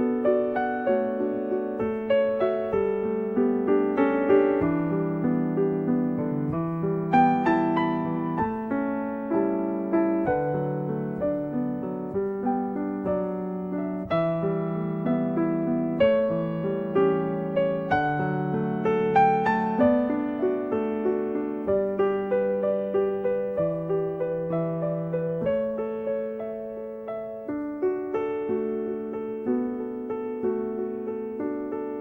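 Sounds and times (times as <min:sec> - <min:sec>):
gentle piano melody: 0:00.0 - 0:32.0.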